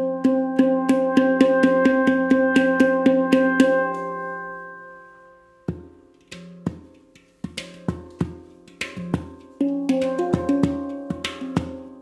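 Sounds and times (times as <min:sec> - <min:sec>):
sharp taps on handpan: 0:00.0 - 0:04.1, 0:05.7 - 0:12.0
handpan notes ringing: 0:00.0 - 0:12.0.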